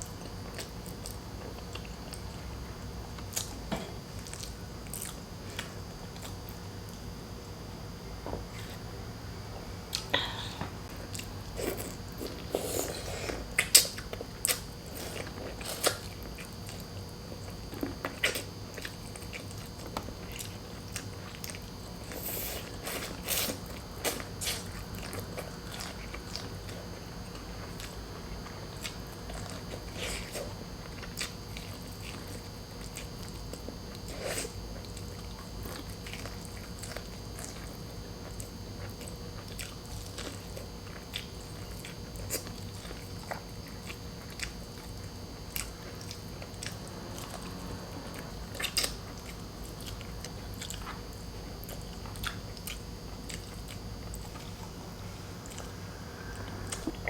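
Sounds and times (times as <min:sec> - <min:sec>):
person chewing with mouth smacks: 0:09.9 - 0:57.0.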